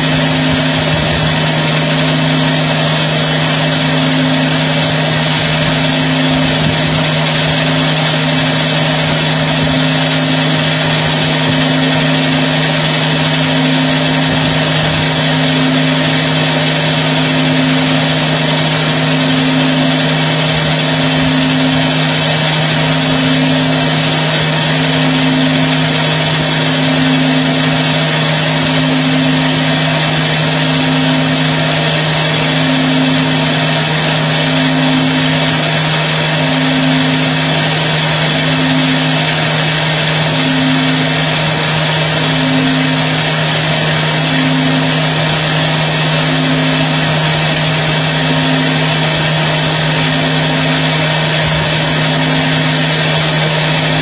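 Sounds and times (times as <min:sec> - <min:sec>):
lathe humming: 0:00.0 - 0:54.0
pulsing machine tone: 0:00.0 - 0:54.0.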